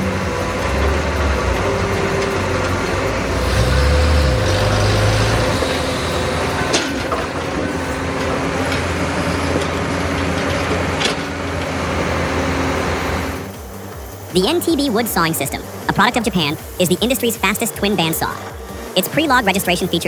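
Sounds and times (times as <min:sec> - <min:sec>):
heavy vehicle engine running: 0:00.0 - 0:20.0.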